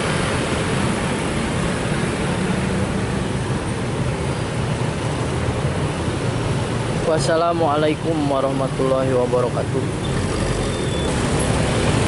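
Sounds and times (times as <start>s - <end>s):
traffic engines idling: 0.0s - 12.0s.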